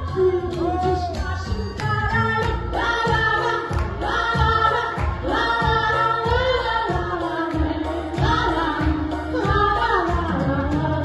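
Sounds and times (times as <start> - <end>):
person singing melody: 0.0 - 11.0
pop song backing track: 0.0 - 11.0.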